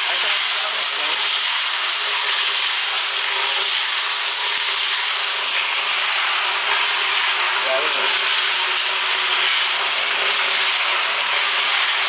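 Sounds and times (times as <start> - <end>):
concrete mixer drum whirring: 0.0 - 12.0.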